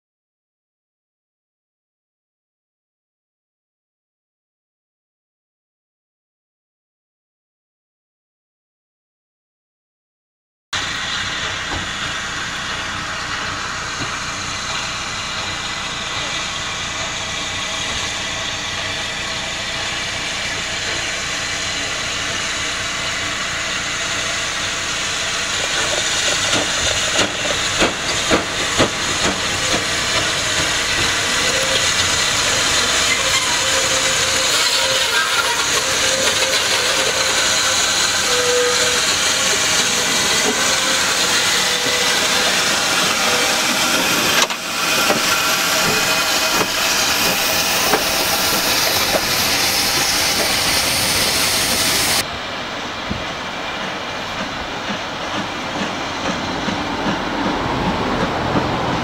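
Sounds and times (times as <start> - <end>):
steam locomotive hissing: 10.8 - 59.0.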